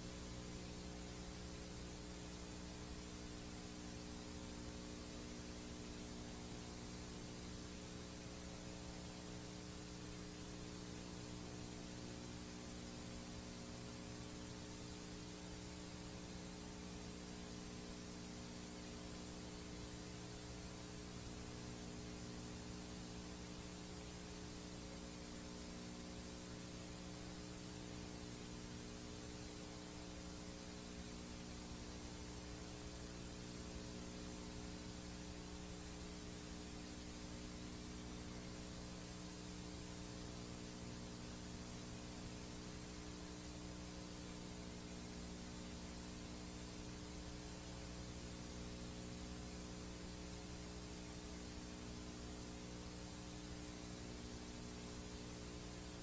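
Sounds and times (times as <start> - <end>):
tape hiss: 0.0 - 56.0.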